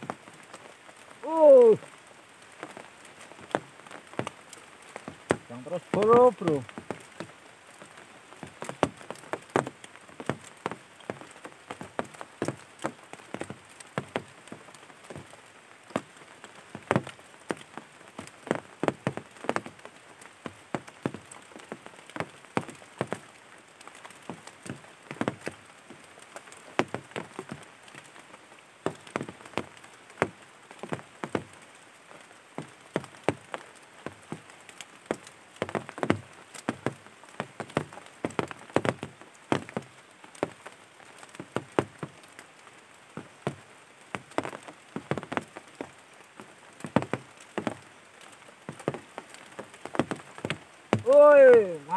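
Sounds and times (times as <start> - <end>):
faint rain hiss: 0.0 - 51.9
raindrops hitting: 0.0 - 51.9.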